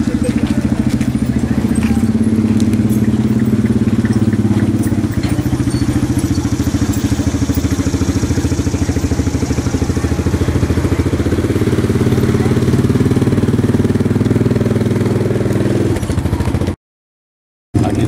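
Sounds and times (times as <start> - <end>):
engine idling: 0.0 - 16.7, 17.8 - 18.0.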